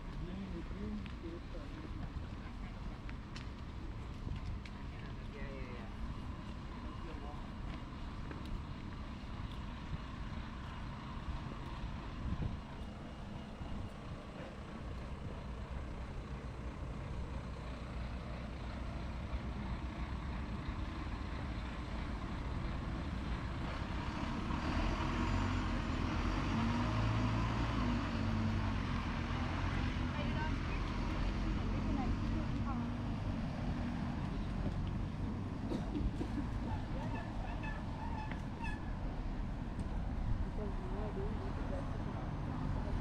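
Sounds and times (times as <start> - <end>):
heavy vehicle engine rumbling: 0.0 - 43.0.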